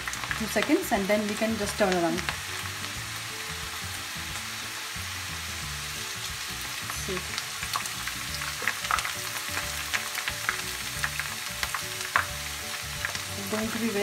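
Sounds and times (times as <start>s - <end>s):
oil crackling and popping: 0.0s - 14.0s
okra deep-frying in oil: 0.0s - 14.0s.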